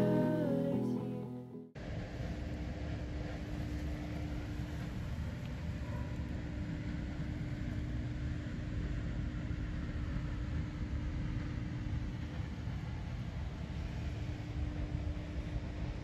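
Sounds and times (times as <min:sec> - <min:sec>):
faint constant hum: 0:00.0 - 0:16.0
low outdoor rumble: 0:00.0 - 0:16.0.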